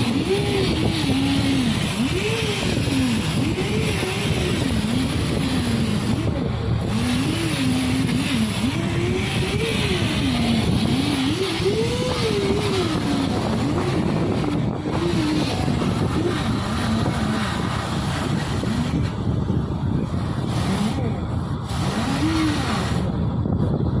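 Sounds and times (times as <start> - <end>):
engine-room machinery running: 0.0 - 24.0.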